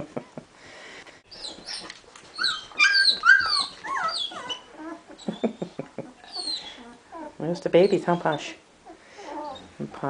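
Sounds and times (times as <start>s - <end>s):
puppies whining and whimpering: 1.3s - 9.8s.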